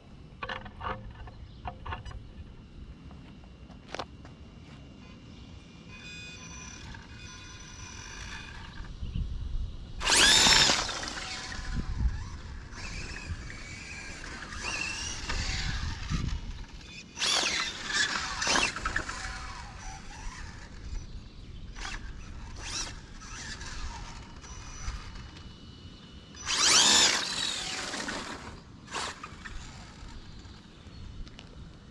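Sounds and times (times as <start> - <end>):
rc car high-pitched whine: 0.3 - 31.8.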